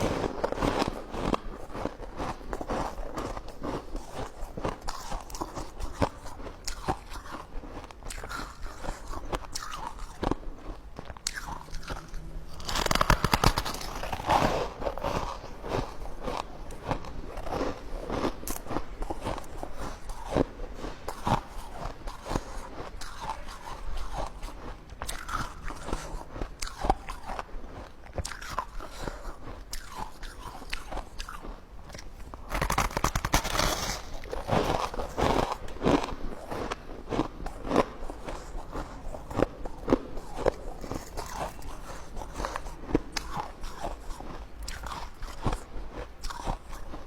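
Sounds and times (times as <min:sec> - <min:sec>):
person chewing hard ice: 0:00.0 - 0:47.0.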